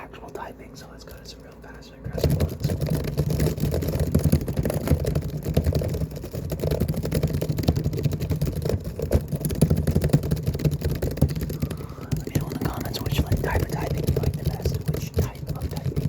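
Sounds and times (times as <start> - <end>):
fast typing on laptop keyboard: 0.0 - 16.0.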